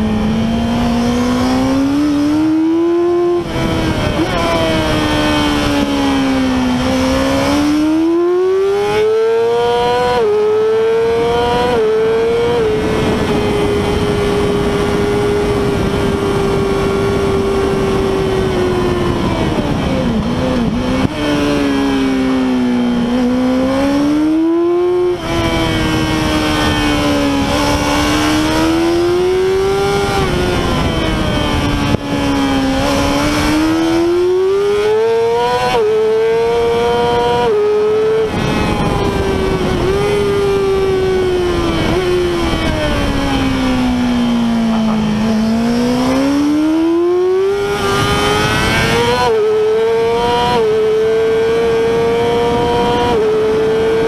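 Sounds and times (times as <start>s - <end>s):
motorcycle engine screaming at high revs: 0.0s - 54.0s
steady rushing noise: 9.8s - 54.0s.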